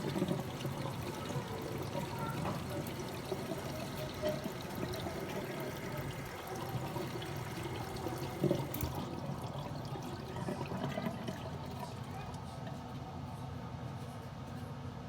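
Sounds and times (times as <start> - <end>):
water running into sink: 0.0 - 12.9.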